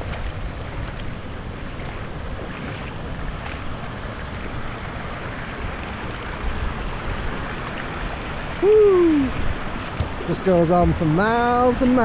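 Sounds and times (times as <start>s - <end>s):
waterfall and stream rushing: 0.0s - 12.0s.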